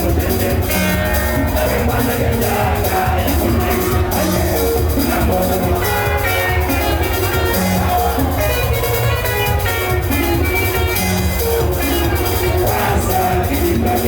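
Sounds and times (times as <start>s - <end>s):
bass: 0.0s - 14.0s
drum beat: 0.0s - 14.0s
plucked electric guitar: 0.0s - 14.0s.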